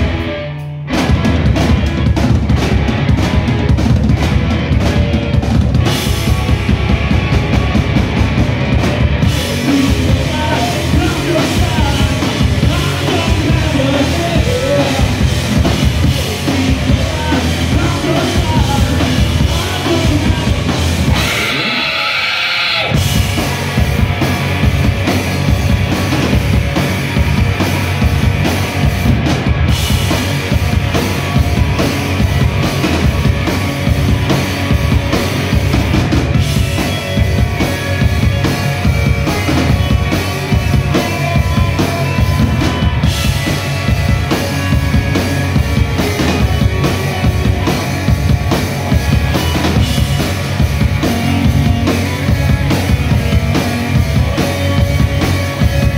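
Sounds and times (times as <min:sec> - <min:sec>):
rock band playing loud: 0:00.0 - 0:55.9.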